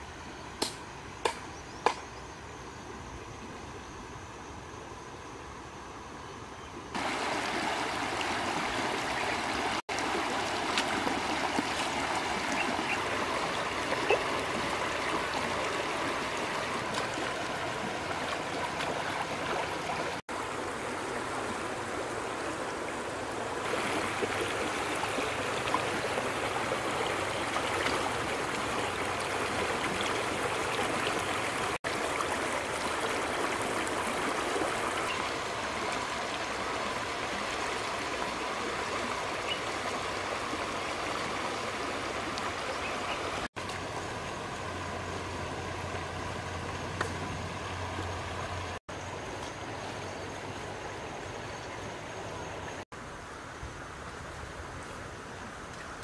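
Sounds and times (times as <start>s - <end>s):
stream babbling over rocks: 6.9s - 56.0s.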